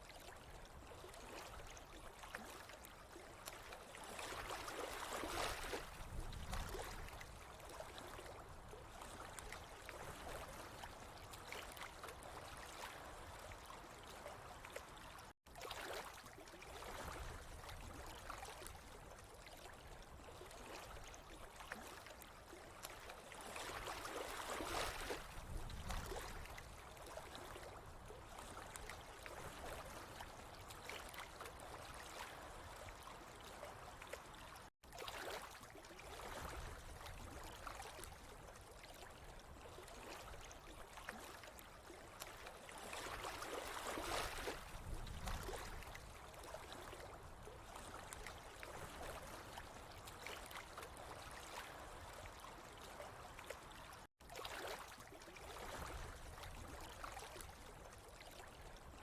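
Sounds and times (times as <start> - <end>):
water flowing and trickling: 0.1 - 59.0.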